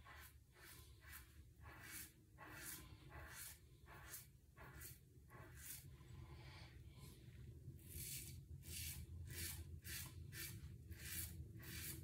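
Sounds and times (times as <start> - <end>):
razor scraping stubble: 0.0 - 5.9, 7.9 - 12.0.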